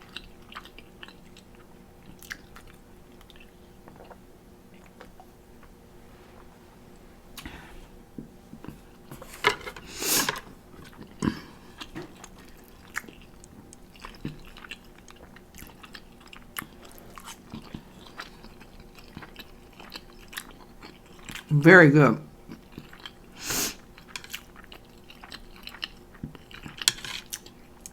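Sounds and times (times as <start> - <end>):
person chewing noodles: 0.0 - 5.8, 8.5 - 21.5, 22.4 - 27.9.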